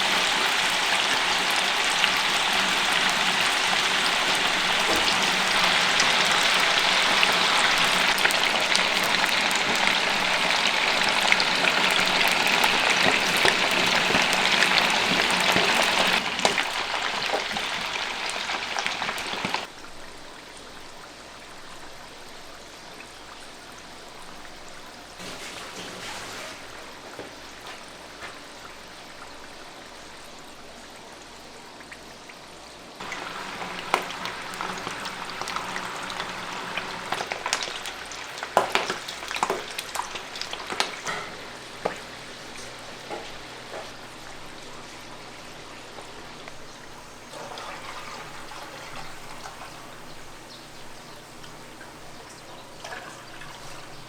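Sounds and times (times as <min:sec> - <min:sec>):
food frying in hot oil: 0:00.0 - 0:54.0.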